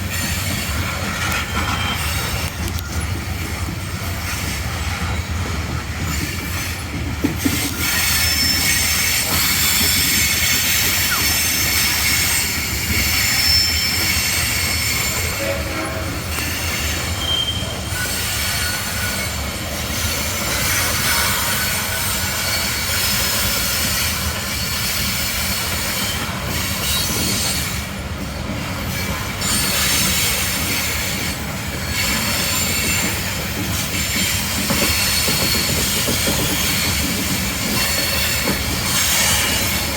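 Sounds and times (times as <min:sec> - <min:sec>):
freight train rumble: 0:00.0 - 0:39.9
train wheels squealing on rails: 0:00.0 - 0:39.9.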